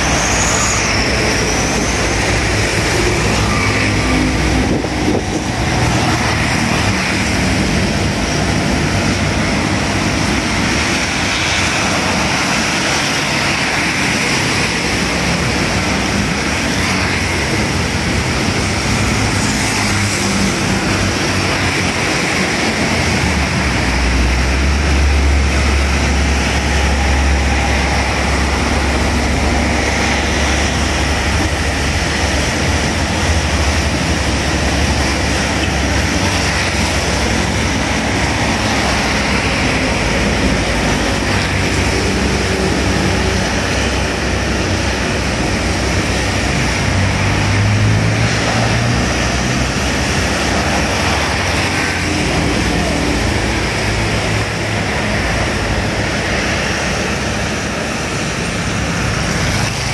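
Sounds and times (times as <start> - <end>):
rain: 0.0 - 59.9
scooter engines passing: 0.0 - 59.9
truck engine rumble: 0.0 - 59.9
tyres hissing on wet road: 0.0 - 59.9.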